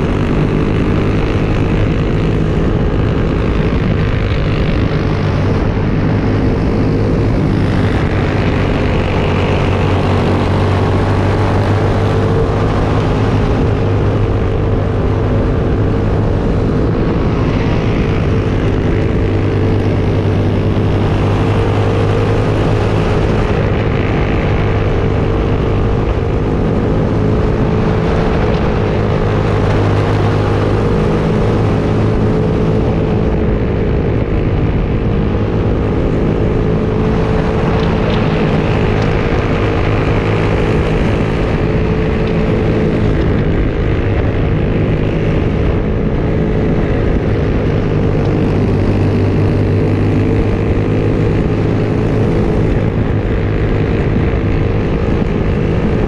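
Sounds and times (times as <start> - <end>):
kart engine at high revs: 0.0 - 56.0.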